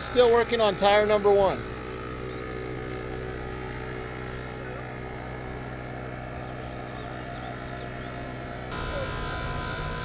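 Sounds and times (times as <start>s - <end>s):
air compressor motor drone: 0.0s - 10.0s.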